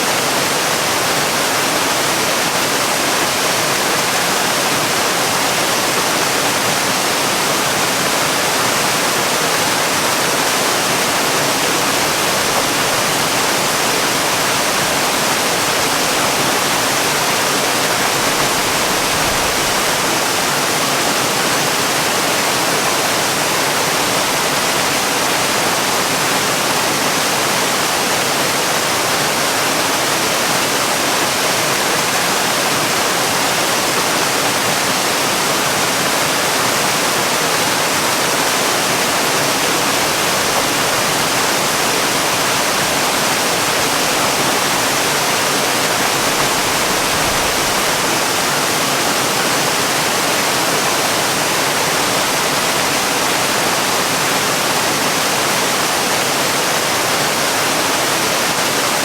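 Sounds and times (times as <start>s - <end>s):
waterfall splashing: 0.0s - 59.0s.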